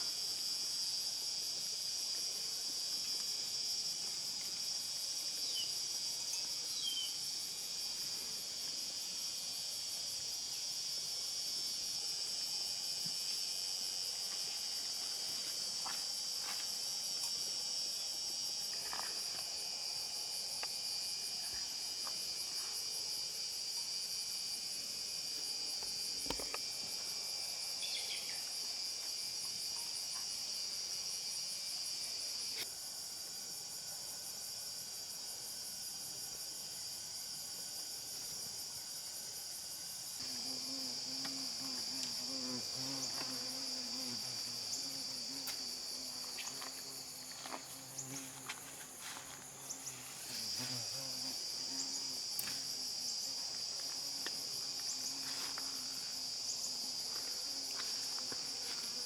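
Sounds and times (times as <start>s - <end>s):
insects buzzing shrilly: 2.7s - 32.7s, 36.5s - 59.0s.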